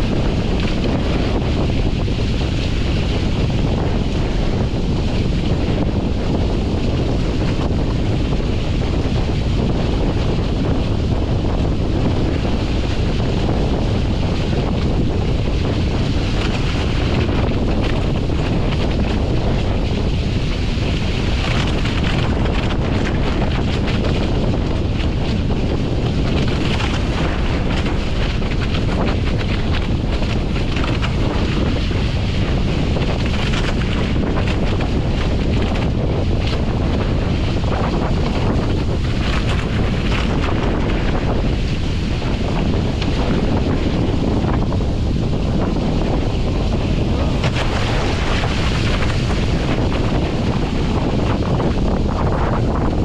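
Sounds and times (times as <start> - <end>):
water rushing and splashing: 0.0 - 53.0
wind buffeting microphone: 0.0 - 53.0.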